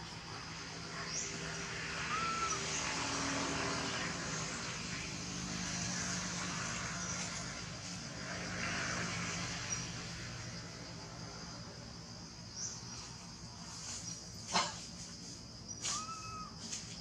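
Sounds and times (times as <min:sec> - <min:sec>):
distant engine droning: 0:00.0 - 0:16.9
forest insects buzzing: 0:00.0 - 0:17.0.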